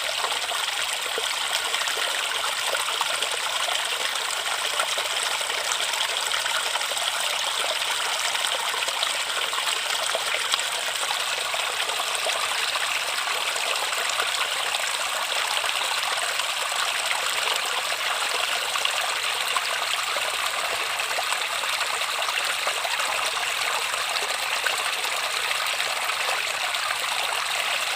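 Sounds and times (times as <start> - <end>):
river water flowing over rocks: 0.0 - 27.9.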